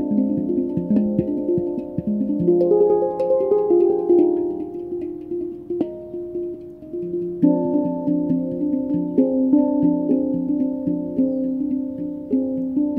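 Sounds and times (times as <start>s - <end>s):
handpan melody: 0.0s - 12.9s.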